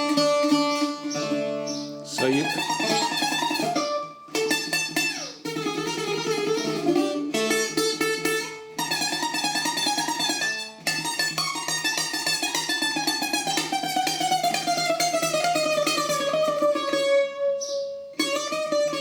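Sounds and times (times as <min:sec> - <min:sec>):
bouzouki picked melody: 0:00.0 - 0:19.0.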